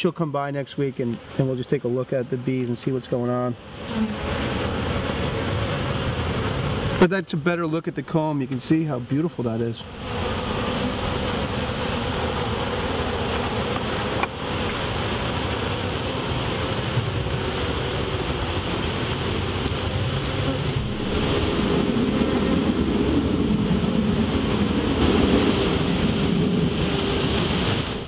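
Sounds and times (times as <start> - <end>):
bees buzzing: 0.1 - 28.0.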